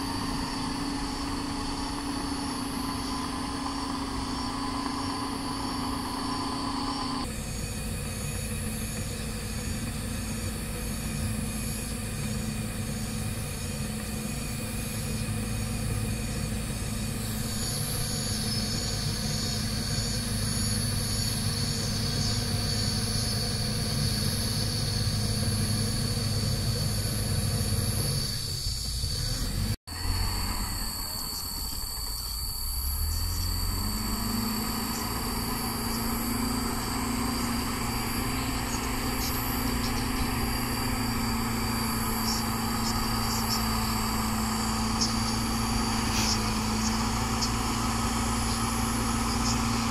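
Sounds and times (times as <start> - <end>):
dozer diesel engine running: 0.0 - 49.9
high-pitched whine: 0.0 - 49.9.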